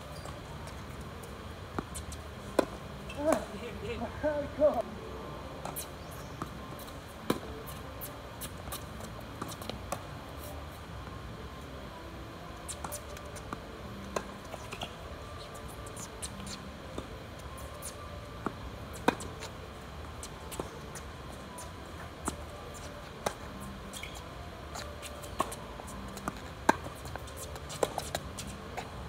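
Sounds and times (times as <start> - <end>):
steady background hiss: 0.0 - 29.0.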